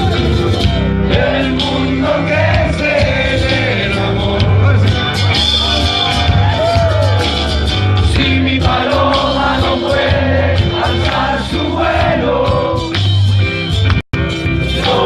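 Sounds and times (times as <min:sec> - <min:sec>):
song with singing and bass: 0:00.0 - 0:15.0.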